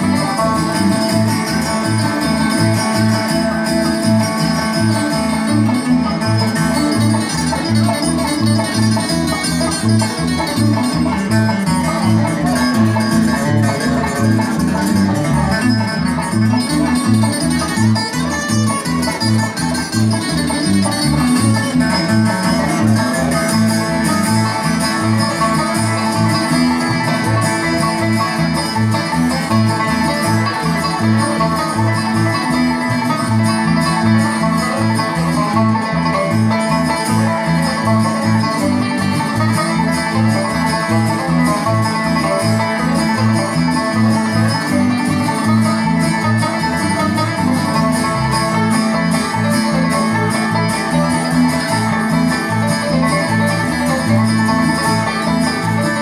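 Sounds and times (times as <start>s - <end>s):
string band music: 0.0s - 56.0s.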